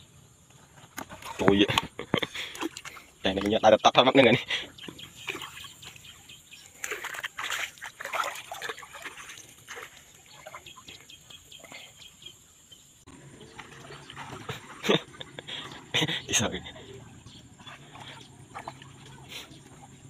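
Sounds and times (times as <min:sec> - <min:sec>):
water splashing and sloshing: 0:00.4 - 0:20.0.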